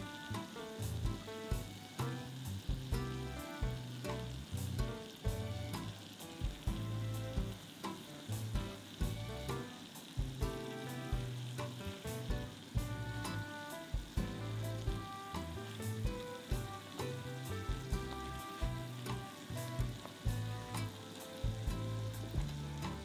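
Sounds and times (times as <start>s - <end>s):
donuts sizzling in oil: 0.0s - 23.0s
music with bass and beat: 0.0s - 23.0s.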